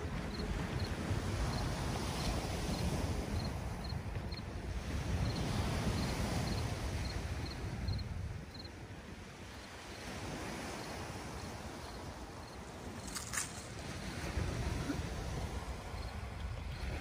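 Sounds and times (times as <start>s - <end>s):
small waves washing on shore: 0.0s - 17.0s
wind rumbling on microphone: 0.0s - 17.0s.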